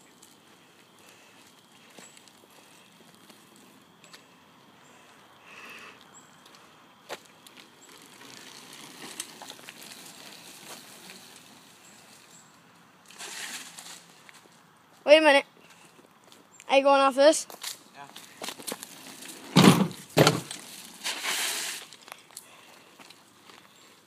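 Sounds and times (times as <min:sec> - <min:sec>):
bike tyres rolling on asphalt: 0:00.0 - 0:16.6, 0:17.3 - 0:24.0.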